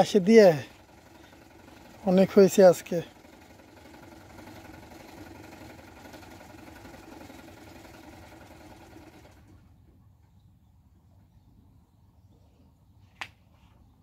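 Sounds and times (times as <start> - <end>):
faint engine humming: 0.0 - 14.0.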